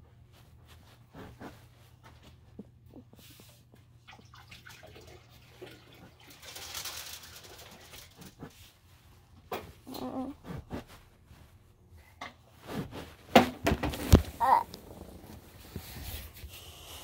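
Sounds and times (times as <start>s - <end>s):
faint rustling and handling noises: 0.0s - 17.0s.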